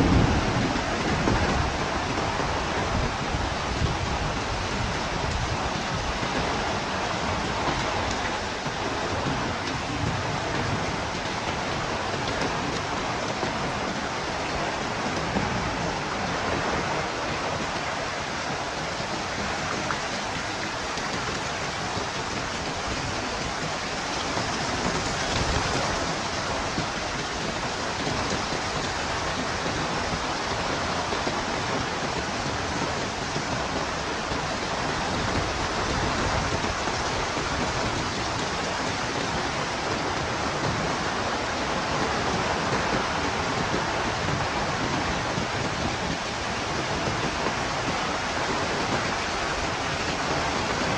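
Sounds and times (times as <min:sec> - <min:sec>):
heavy rain falling: 0:00.0 - 0:50.9
wind: 0:00.0 - 0:50.9.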